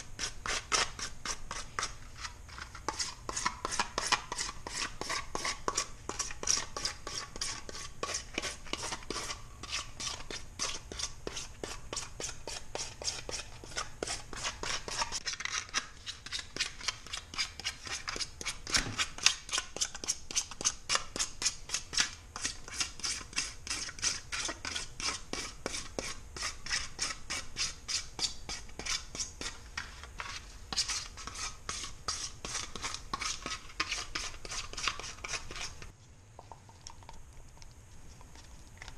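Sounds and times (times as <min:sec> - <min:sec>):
hand rasp scraping: 0:00.2 - 0:35.9.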